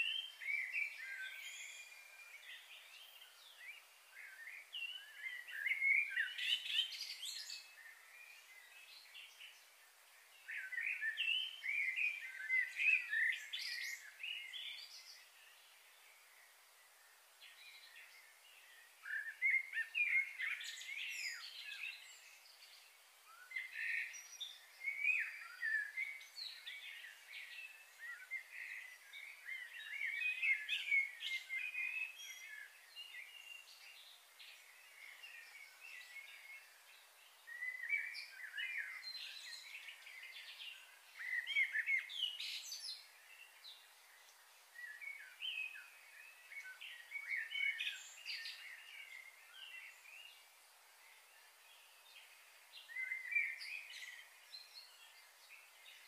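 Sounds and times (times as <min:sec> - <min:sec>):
faint steady hiss: 0:00.0 - 0:56.0
small birds chirping: 0:00.0 - 0:56.0.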